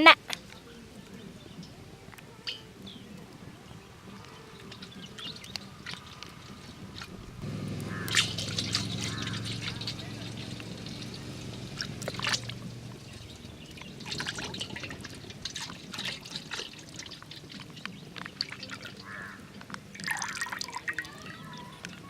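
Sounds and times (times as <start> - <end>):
wet dripping: 0.2 - 22.0
oil pouring onto chicken: 4.2 - 22.0.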